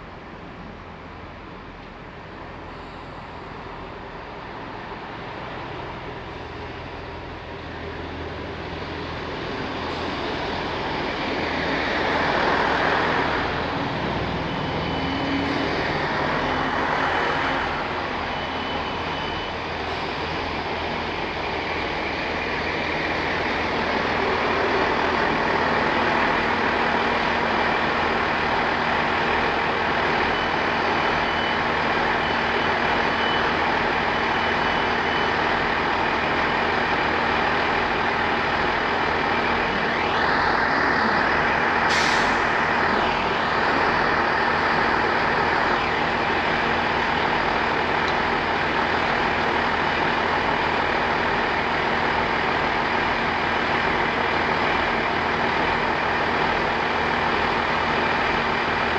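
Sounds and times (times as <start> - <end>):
diesel train engine and rail noise: 0.0 - 58.9.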